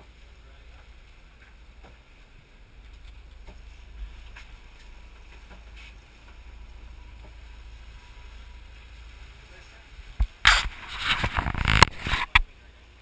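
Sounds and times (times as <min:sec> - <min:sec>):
boat engine low rumble: 0:00.0 - 0:10.5.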